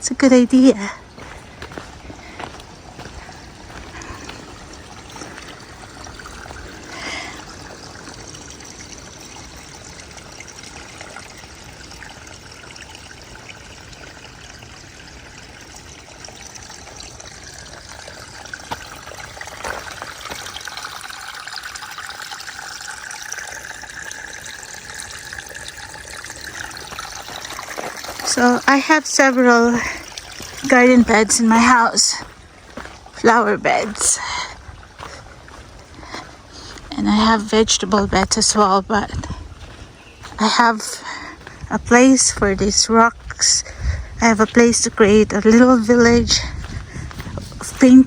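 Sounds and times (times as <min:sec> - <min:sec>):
stream trickling: 0:00.0 - 0:48.0.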